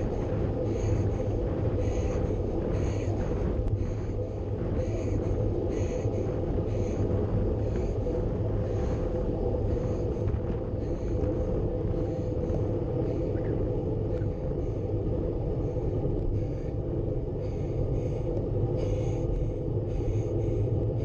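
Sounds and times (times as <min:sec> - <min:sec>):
bike tyres humming on asphalt: 0:00.0 - 0:21.0
wind rushing over microphone: 0:00.0 - 0:21.0.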